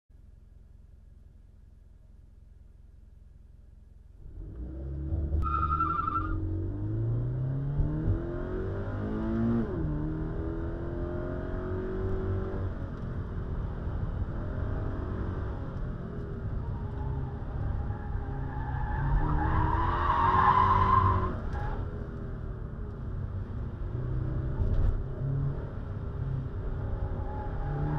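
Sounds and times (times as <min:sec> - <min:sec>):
car engine accelerating: 0:04.2 - 0:27.9.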